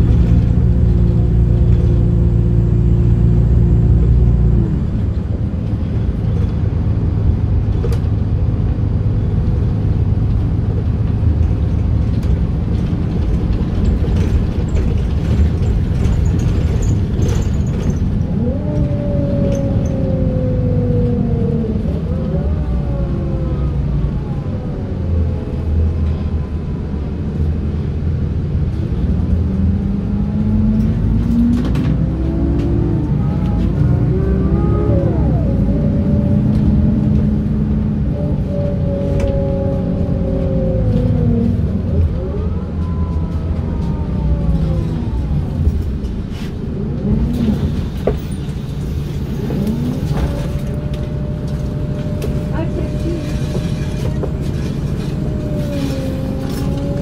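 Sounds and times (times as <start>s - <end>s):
bus diesel engine rumble: 0.0s - 57.0s
rattles inside bus: 0.0s - 57.0s.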